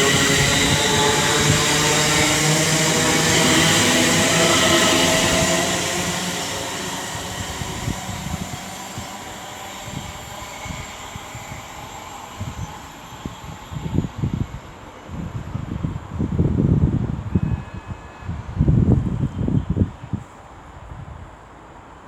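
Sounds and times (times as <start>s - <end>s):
train running on tracks: 0.0s - 22.0s.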